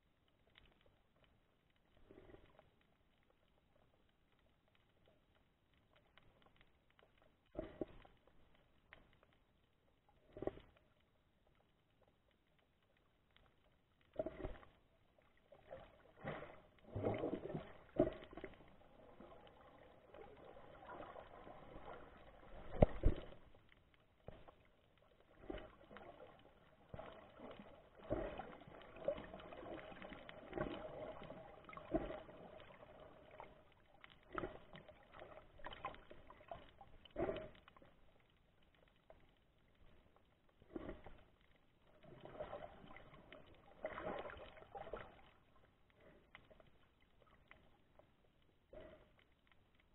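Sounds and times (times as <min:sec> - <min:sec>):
water movement: 0:00.4 - 0:49.9.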